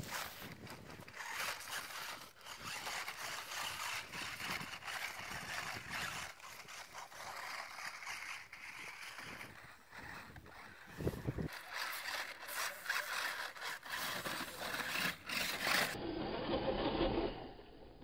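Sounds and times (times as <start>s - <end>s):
rc car motor and gears whirring: 0.0s - 18.0s.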